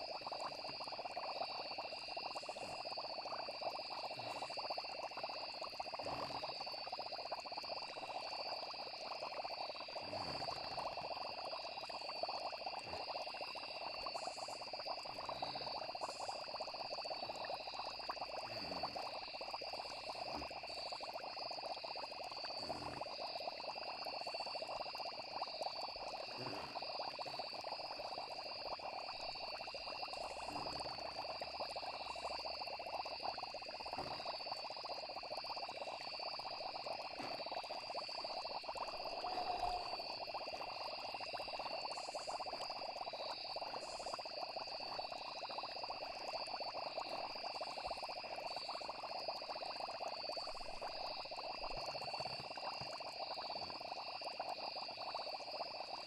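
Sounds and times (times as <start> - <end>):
frogs and insects trilling: 0.0 - 56.0.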